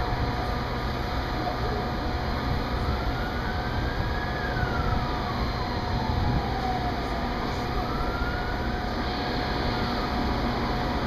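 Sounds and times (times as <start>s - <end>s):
idling train rumble and hum: 0.0s - 11.0s
siren-like wail: 1.5s - 11.0s.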